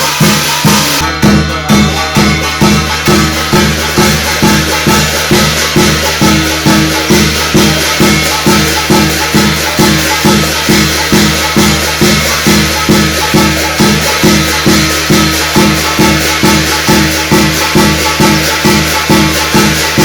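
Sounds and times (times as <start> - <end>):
drum beaten in steady rhythm: 0.0 - 20.0.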